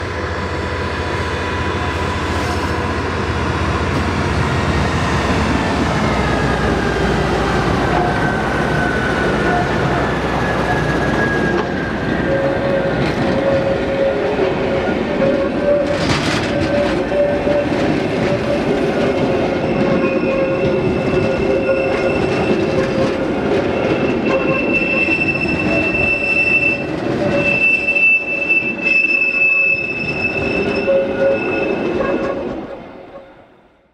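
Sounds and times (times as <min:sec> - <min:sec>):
rumble of train running gear: 0:00.0 - 0:33.2
train wheels squealing: 0:06.0 - 0:33.3.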